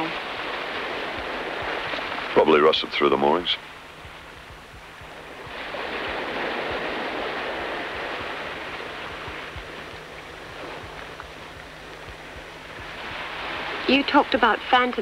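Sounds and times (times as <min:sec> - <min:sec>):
surf washing against rocks: 0:00.0 - 0:15.0.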